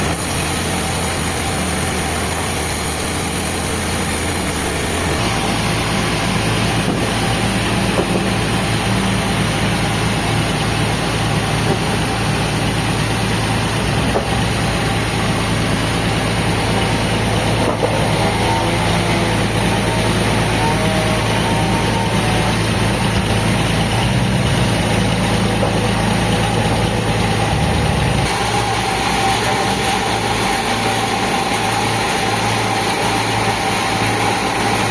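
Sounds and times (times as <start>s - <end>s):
heavy machinery engine humming: 0.0s - 34.9s.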